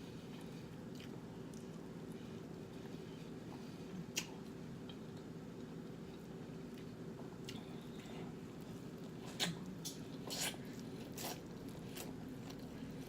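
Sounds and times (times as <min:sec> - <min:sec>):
steady low hum: 0:00.0 - 0:13.0
person chewing food: 0:00.2 - 0:13.0.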